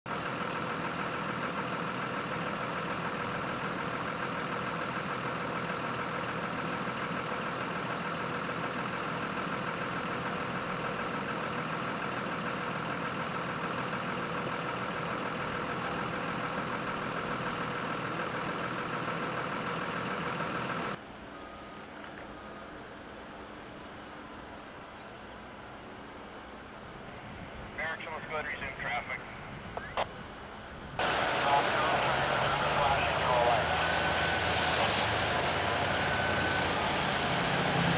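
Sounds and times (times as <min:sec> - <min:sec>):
vehicle engine idling: 0:00.1 - 0:37.9.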